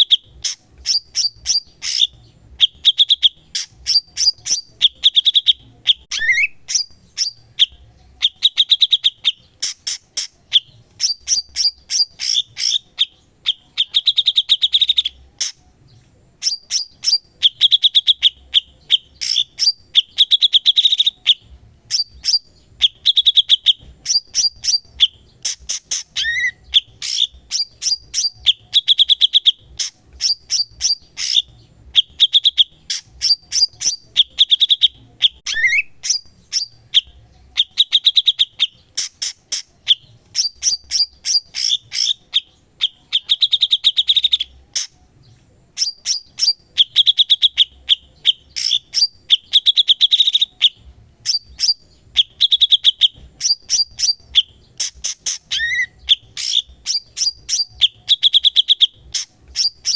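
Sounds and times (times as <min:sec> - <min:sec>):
bird singing chattering trills: 0:00.0 - 0:59.9.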